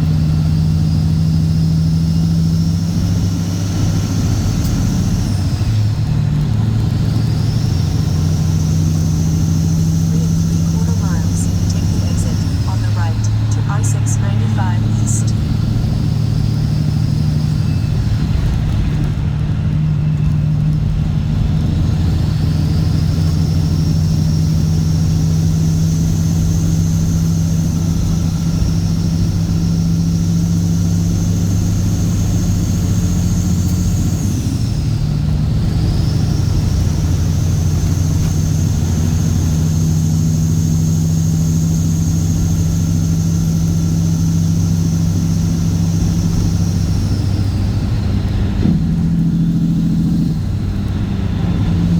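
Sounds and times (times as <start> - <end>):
diesel truck engine droning: 0.0 - 51.9
high engine whine: 0.0 - 51.9.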